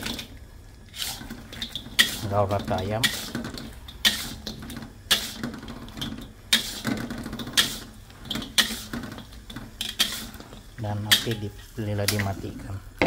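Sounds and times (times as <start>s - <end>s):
metal spatula scraping wok: 0.9s - 12.5s.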